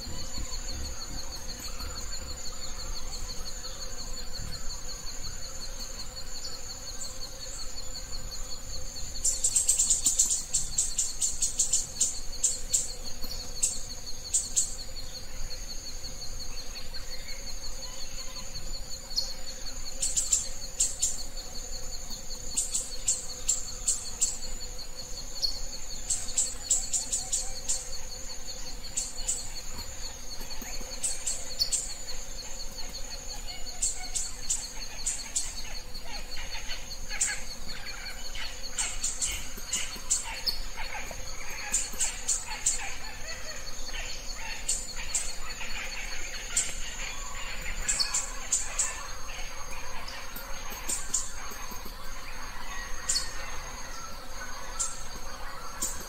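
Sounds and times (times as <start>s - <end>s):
insect trilling: 0.0s - 56.0s.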